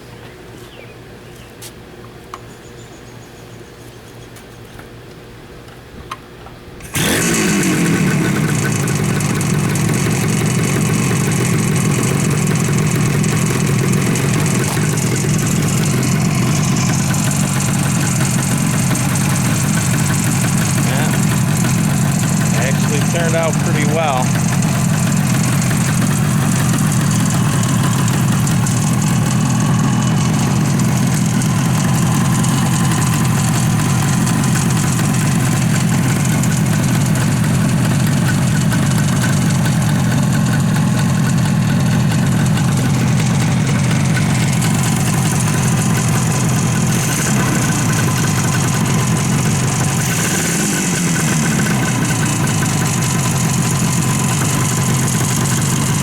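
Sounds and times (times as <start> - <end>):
two-stroke engine idling: 6.8 - 56.0.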